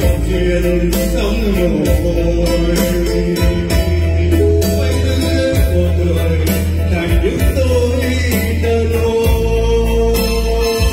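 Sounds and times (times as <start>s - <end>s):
ballad with steady bass: 0.0s - 10.9s
man singing into a microphone: 0.0s - 10.9s.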